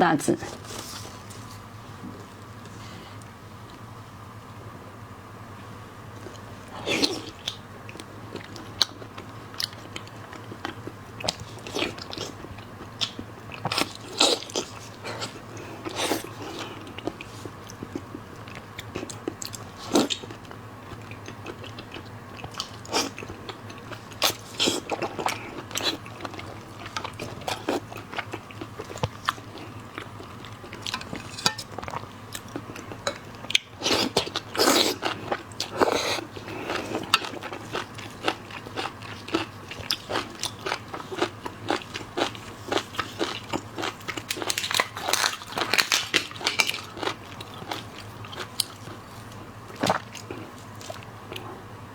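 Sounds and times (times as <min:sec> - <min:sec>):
crunching and chewing seafood: 0:06.2 - 0:51.6.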